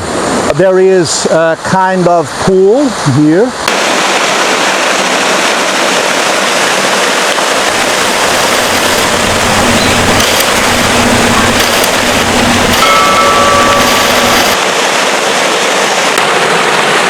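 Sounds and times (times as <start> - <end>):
waterfall pouring into pool: 2.8 - 17.0.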